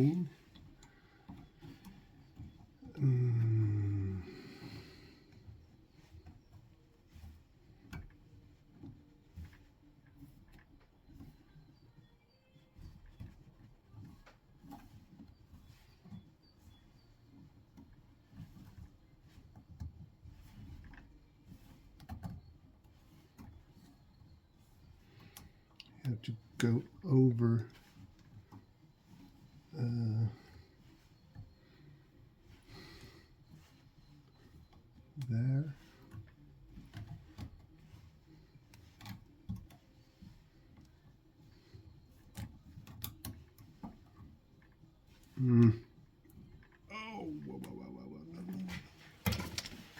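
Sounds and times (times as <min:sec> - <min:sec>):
faint handling clicks and taps: 0:03.9 - 0:47.0.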